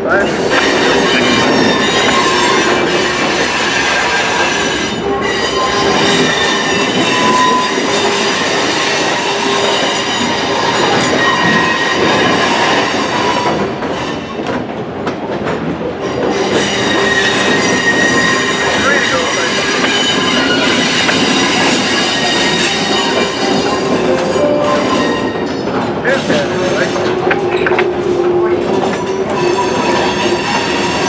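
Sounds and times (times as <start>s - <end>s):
freight cars rumbling on rails: 0.0s - 31.0s
train wheels squealing: 0.2s - 14.4s, 16.0s - 27.7s, 28.6s - 31.0s.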